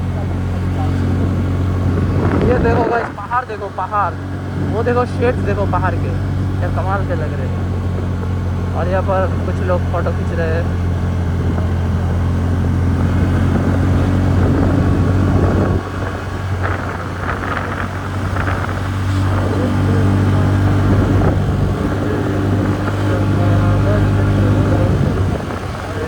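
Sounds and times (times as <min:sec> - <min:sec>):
scooter engine running: 0:00.0 - 0:26.0.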